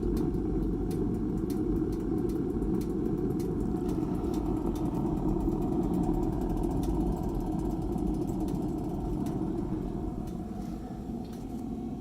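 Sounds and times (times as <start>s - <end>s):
faint ticks: 0.0s - 11.8s
pellet burner fan rumble: 0.0s - 12.0s.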